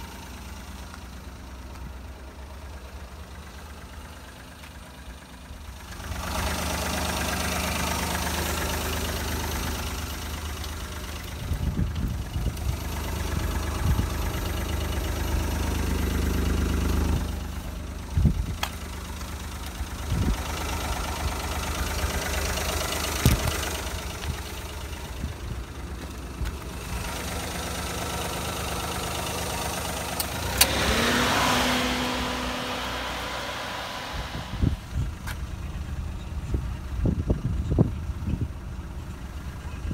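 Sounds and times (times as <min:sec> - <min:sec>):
van engine idling: 0:00.0 - 0:39.9.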